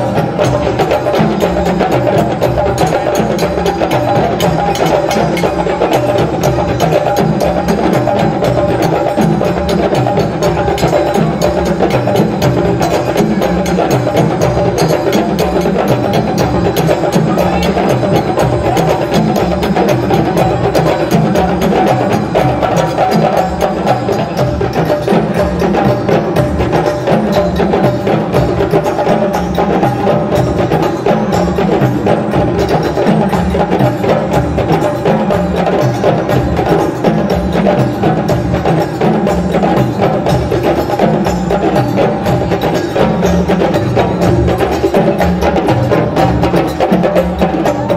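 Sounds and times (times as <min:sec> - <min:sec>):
djembe drum ensemble: 0:00.0 - 0:47.9.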